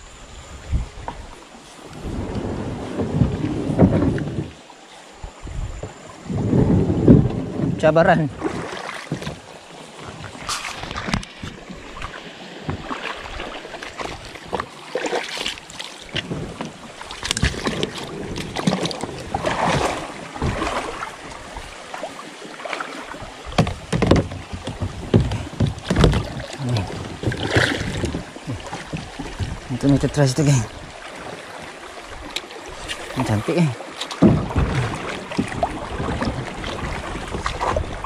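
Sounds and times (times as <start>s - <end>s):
rushing river water: 0.0s - 38.0s
paddle splashes and knocks: 1.0s - 38.0s.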